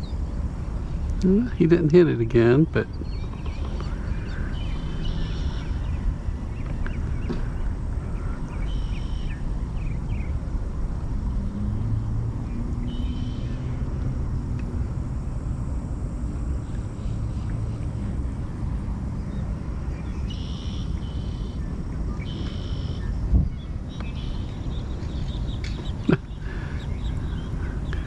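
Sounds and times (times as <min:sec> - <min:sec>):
birds calling: 0:00.0 - 0:10.5, 0:12.4 - 0:13.8, 0:16.5 - 0:28.0
faint low hum: 0:00.0 - 0:28.0
steady low rumble: 0:00.0 - 0:28.0.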